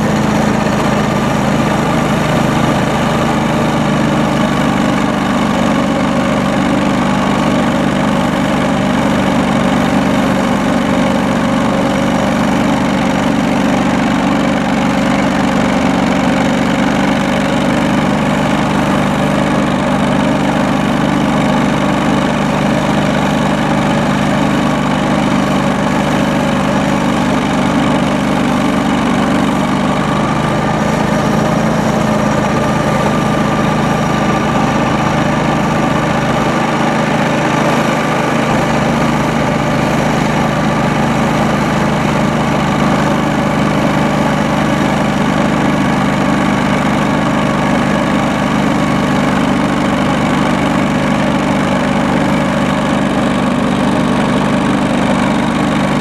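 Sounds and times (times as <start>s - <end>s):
garden tractor engine running: 0.0s - 56.0s
snowblower throwing snow: 0.0s - 56.0s.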